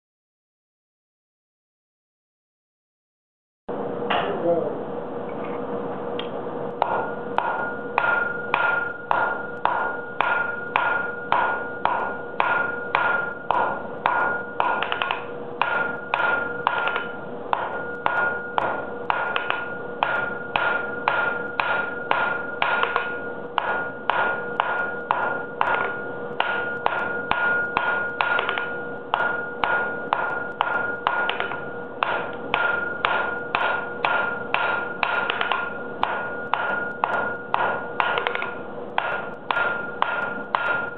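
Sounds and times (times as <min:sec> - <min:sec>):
hammer ringing on anvil: 0:06.8 - 0:40.9.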